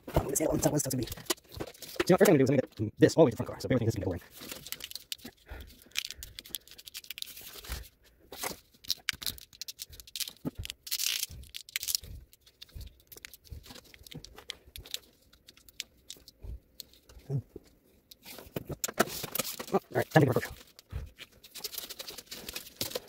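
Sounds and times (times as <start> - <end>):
plastic wire loom crinkling: 0.2 - 17.4, 18.1 - 23.0.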